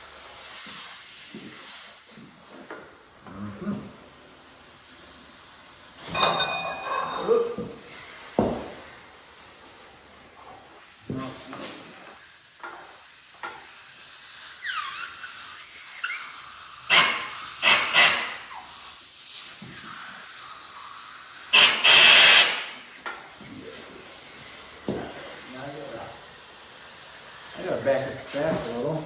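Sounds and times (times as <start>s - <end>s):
compressed air hissing: 0.0s - 29.0s.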